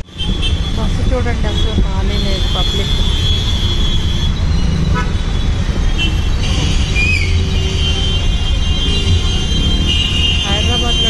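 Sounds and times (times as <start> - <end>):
traffic engines rumbling: 0.0 - 11.0.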